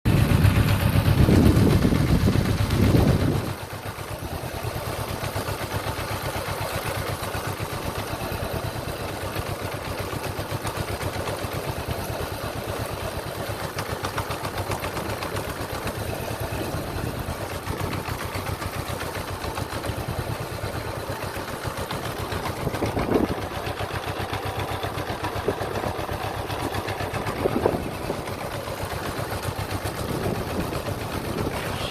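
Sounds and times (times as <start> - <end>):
motorcycle engine idling: 0.1 - 31.9.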